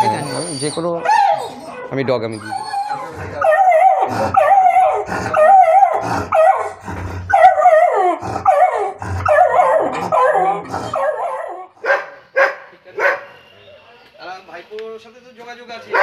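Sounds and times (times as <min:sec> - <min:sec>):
dog baying: 0:00.0 - 0:13.3.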